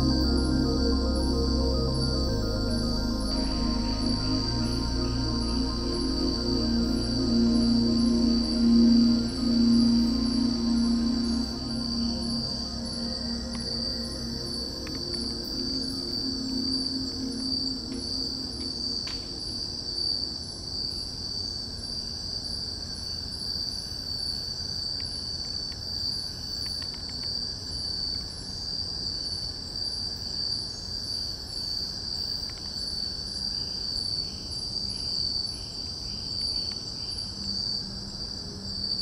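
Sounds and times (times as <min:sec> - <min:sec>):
insects trilling: 0:00.0 - 0:39.0
rhythmic insect chirping: 0:00.0 - 0:39.0.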